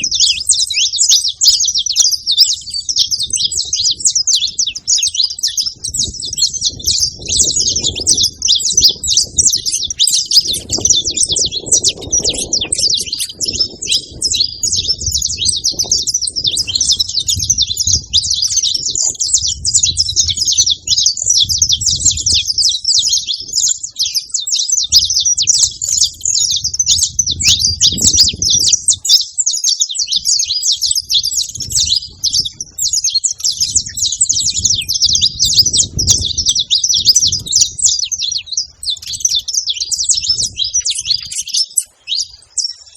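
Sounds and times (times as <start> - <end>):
flock of finches chirping: 0.0 - 42.9.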